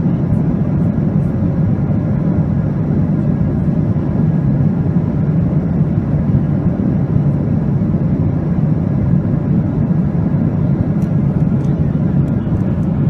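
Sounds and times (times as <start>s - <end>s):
jet airliner cabin rumble: 0.0s - 13.0s.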